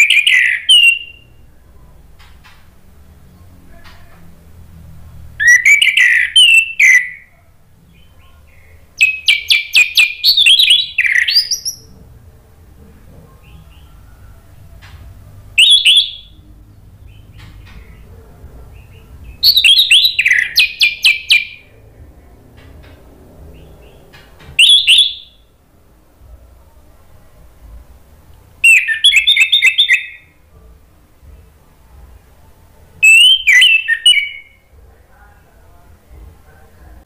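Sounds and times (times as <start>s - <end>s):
thrush singing: 0.0s - 37.0s.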